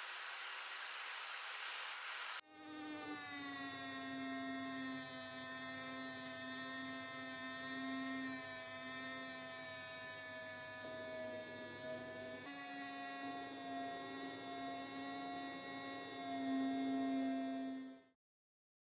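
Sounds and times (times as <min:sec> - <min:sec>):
small electric motor running: 0:02.4 - 0:18.2.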